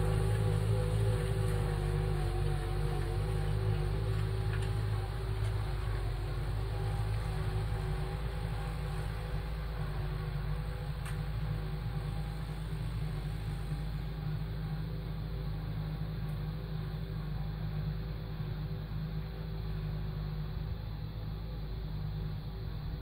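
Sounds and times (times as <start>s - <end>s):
faint steady hum: 0.0s - 23.0s
tractor diesel engine rumbling: 0.0s - 23.0s.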